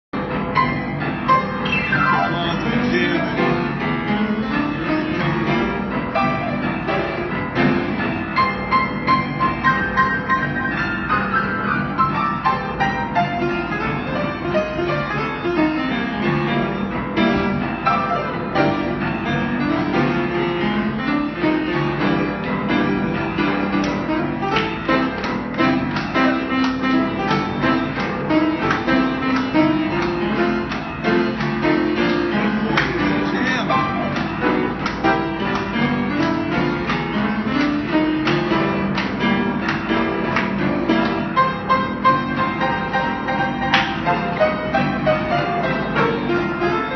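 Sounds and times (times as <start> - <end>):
upbeat piano tune: 0.1 - 46.9.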